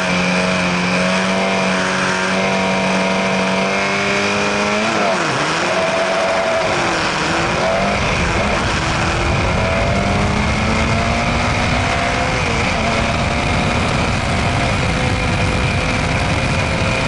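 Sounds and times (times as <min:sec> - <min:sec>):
race car engine accelerating: 0:00.0 - 0:17.0
wind and road noise: 0:00.0 - 0:17.0.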